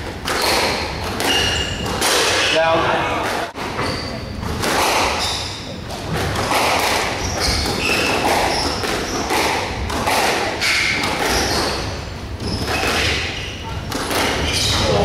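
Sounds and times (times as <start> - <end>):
squash ball hits: 0.0 - 15.0
shoes squeaking on floor: 0.3 - 9.7, 10.6 - 15.0.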